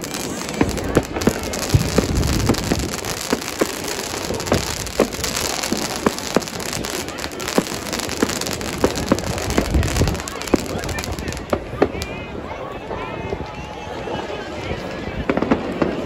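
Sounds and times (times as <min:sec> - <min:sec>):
fireworks bangs: 0:00.0 - 0:12.4, 0:14.8 - 0:16.0
fireworks crackling: 0:00.0 - 0:16.0.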